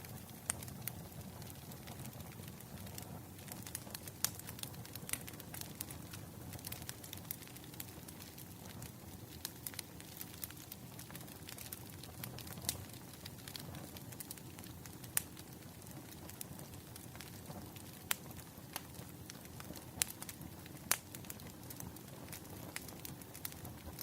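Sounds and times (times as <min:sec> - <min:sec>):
firewood crackling and popping: 0:00.0 - 0:24.0
low steady fire rumble: 0:00.0 - 0:24.0.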